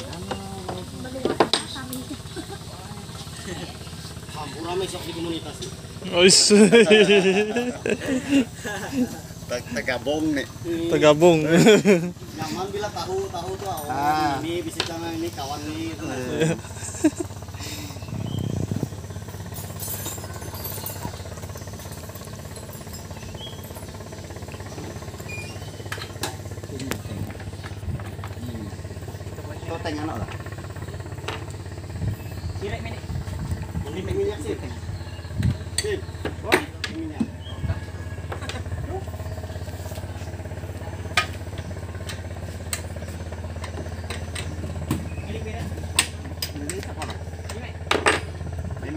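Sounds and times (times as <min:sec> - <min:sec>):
small boat engine running: 0:00.0 - 0:48.9.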